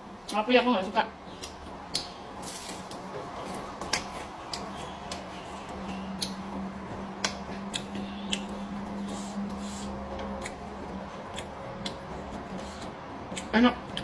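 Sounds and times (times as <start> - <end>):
low steady hum: 0.0 - 14.0
chewing raw greens: 1.3 - 14.0.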